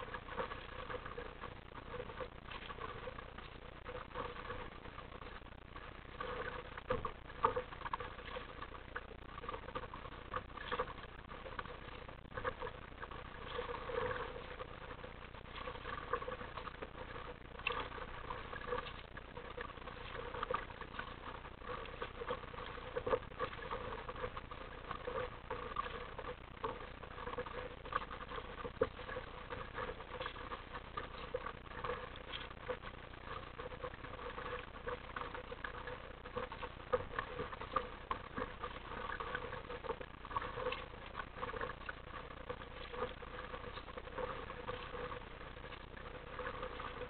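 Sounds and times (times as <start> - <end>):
water splashing against kayak hull: 0.0 - 47.0.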